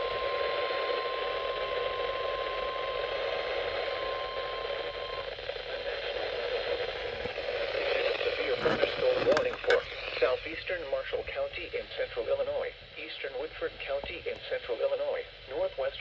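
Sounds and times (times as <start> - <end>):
radio static: 0.0 - 16.0.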